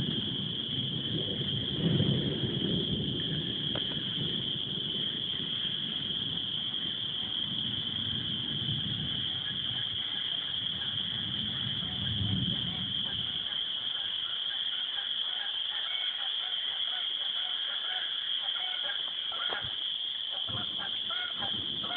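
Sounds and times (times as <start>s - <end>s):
frogs calling: 0.0s - 21.9s.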